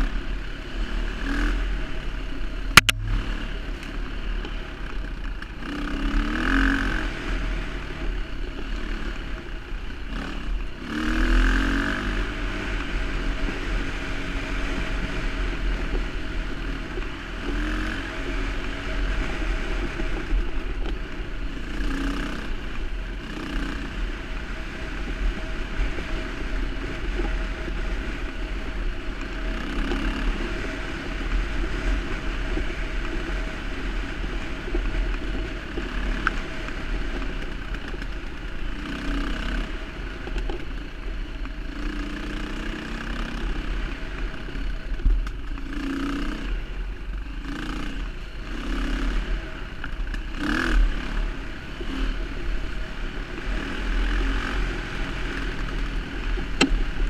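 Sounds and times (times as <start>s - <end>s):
motorcycle engine revving: 0.0s - 57.0s
trail clatter: 0.0s - 57.0s
wind: 0.0s - 57.0s.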